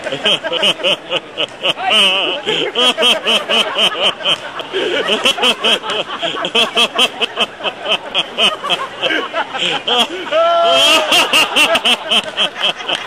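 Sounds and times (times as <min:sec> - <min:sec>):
chatter: 0:00.0 - 0:13.0
people laughing: 0:00.0 - 0:13.0.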